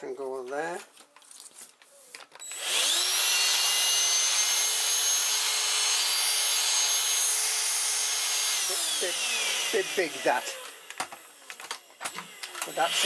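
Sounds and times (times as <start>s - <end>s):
vacuum cleaner motor whine: 2.4s - 13.0s.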